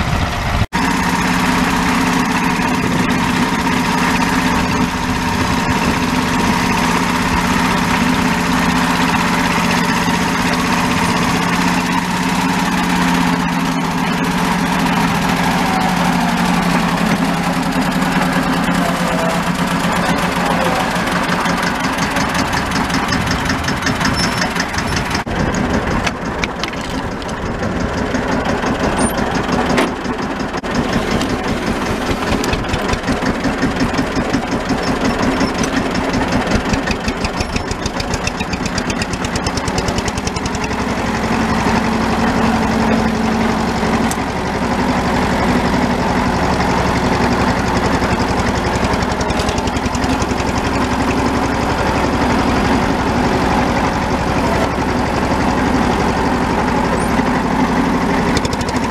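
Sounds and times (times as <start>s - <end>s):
diesel tractor engine running: 0.0s - 58.9s.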